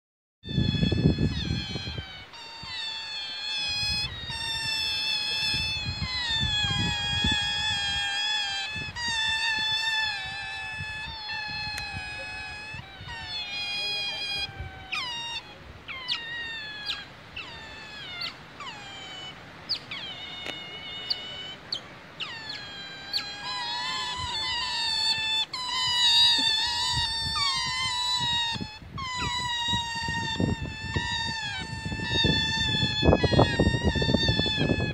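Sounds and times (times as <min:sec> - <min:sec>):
otters squealing: 0:00.5 - 0:34.9.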